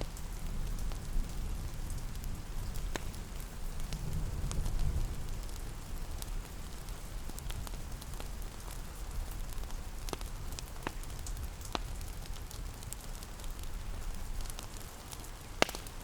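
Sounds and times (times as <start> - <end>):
rain pattering: 0.0 - 16.0
wood fire crackling: 0.0 - 16.0.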